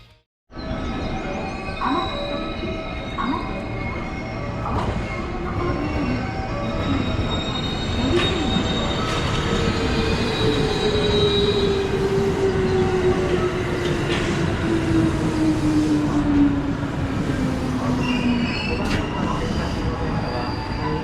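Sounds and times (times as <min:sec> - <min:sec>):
rumble of wheels on rail: 0:02.9 - 0:21.0.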